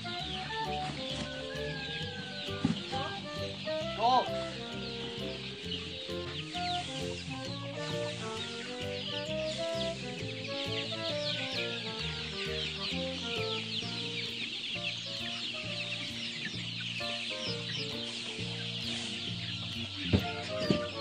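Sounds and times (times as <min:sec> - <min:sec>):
background music: 0:00.0 - 0:21.0
chicks peeping: 0:00.0 - 0:21.0.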